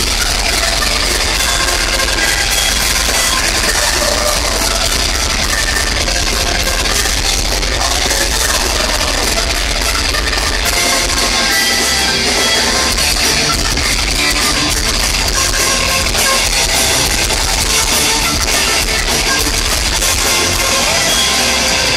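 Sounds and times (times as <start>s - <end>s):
live heavy metal band: 0.0s - 21.9s
violin: 0.0s - 21.9s.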